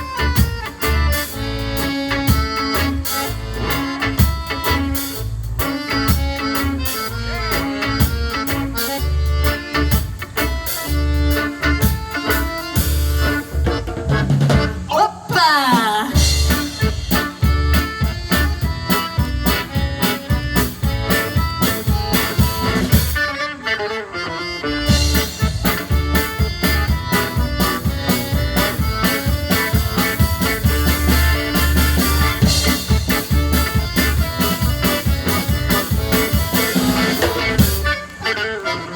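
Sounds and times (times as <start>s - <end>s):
accordion: 0.0s - 15.4s, 16.0s - 38.9s
drum kit beat: 0.0s - 23.4s, 24.8s - 38.6s
guitar: 0.0s - 38.9s.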